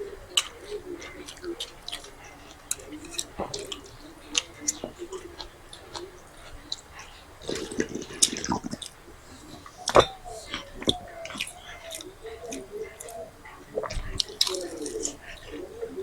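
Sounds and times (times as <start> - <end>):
wet squishing and dripping food: 0.0 - 16.0.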